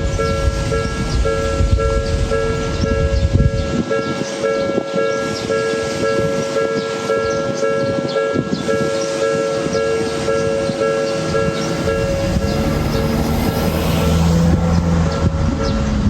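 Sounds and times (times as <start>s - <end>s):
level-crossing warning bell: 0.0s - 13.5s
rattling noise: 0.0s - 16.0s.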